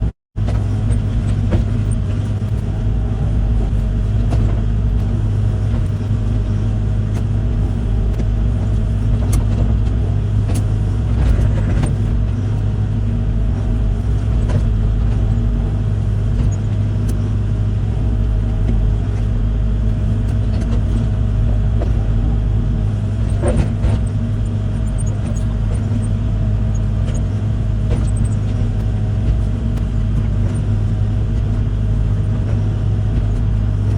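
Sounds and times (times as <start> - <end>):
heavy equipment engine drone: 0.0 - 33.9.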